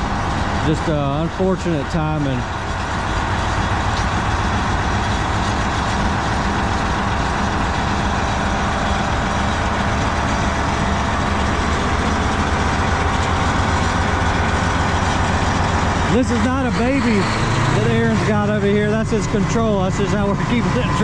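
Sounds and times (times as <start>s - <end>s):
wood grinder diesel engine running: 0.0s - 21.0s.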